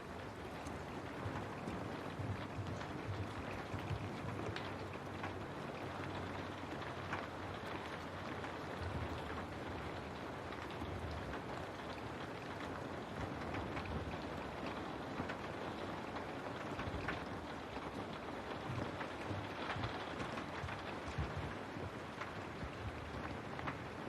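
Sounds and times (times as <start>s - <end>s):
rain on a window pane: 0.0s - 24.0s.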